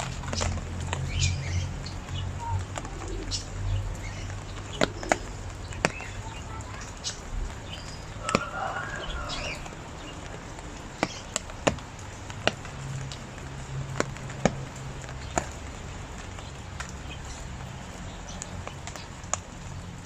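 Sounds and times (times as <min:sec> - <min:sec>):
birds calling: 0:00.0 - 0:19.8
rain falling: 0:00.0 - 0:20.0.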